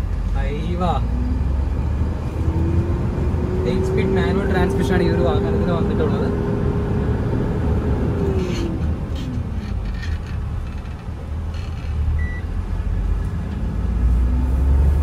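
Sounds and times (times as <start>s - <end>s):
truck diesel engine rumble: 0.0s - 15.0s.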